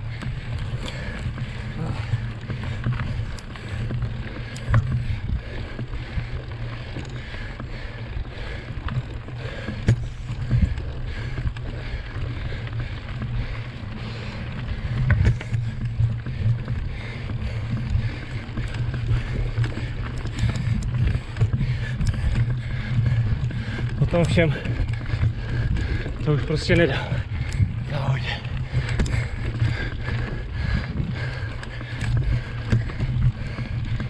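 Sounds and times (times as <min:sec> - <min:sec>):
bike knocking and rattling: 0:00.0 - 0:34.0
bike tyres rumbling on trail: 0:00.0 - 0:34.0.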